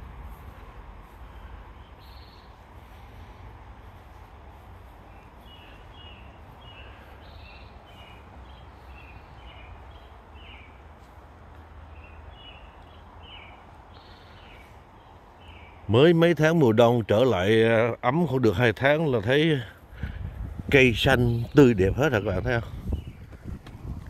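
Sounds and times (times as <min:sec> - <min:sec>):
steady low rumble: 0:00.0 - 0:15.9, 0:19.7 - 0:24.0
small birds chirping: 0:00.3 - 0:24.0.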